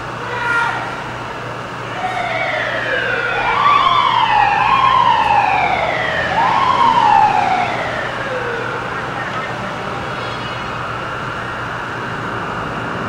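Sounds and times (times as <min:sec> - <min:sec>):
low city hum: 0:00.0 - 0:13.0
emergency vehicle siren wailing: 0:01.6 - 0:13.0.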